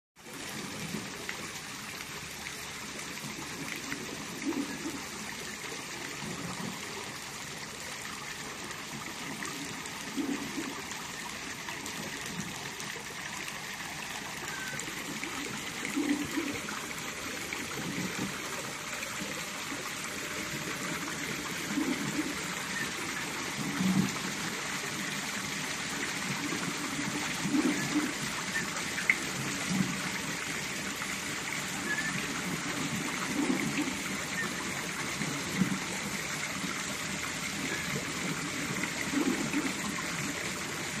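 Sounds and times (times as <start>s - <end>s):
water trickling and splashing: 0.2s - 41.0s.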